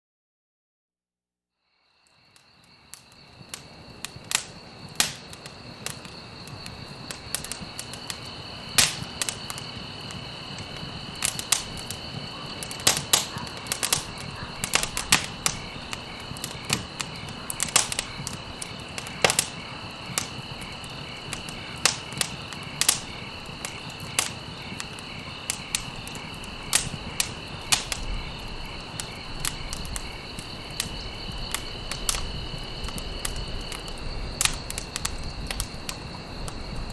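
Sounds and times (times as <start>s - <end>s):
high-pitched insect trill: 1.7s - 36.9s
wood fire crackling and popping: 2.0s - 36.9s.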